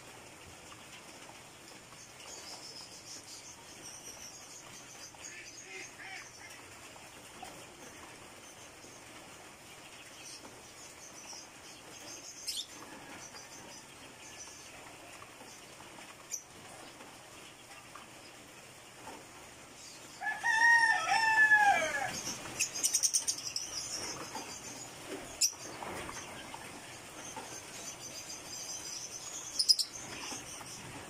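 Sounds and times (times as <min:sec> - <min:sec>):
light rain hissing: 0:00.0 - 0:31.0
small birds chirping: 0:00.0 - 0:31.0.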